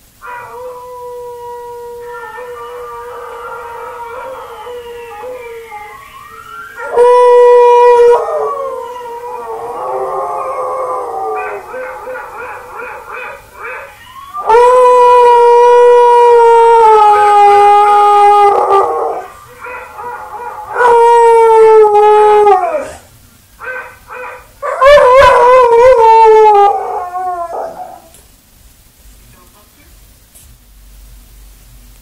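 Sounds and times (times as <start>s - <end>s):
dog howling: 0.2s - 28.1s.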